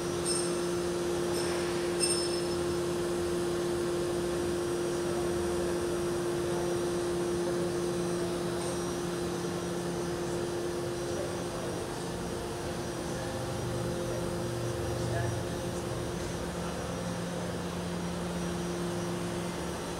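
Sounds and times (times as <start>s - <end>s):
machine hum with steady whir: 0.0s - 19.9s.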